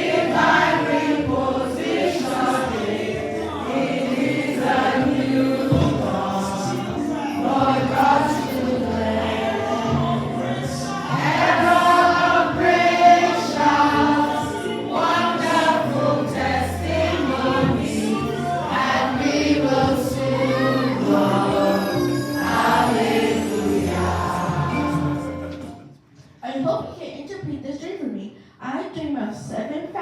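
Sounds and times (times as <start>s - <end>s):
choir singing gospel music: 0.0s - 26.0s.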